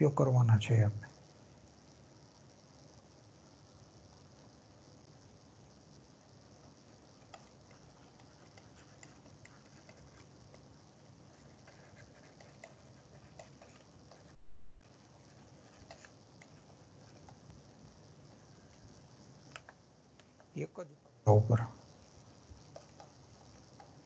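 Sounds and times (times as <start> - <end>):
low steady hiss: 0.0 - 24.0.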